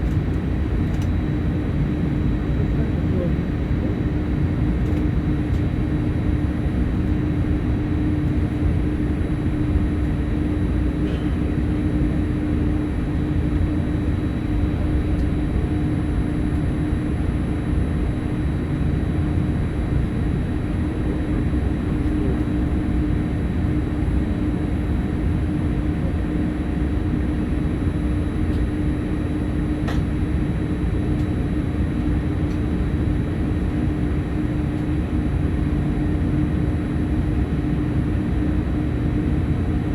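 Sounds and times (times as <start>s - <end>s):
cabin ventilation drone: 0.0s - 39.9s.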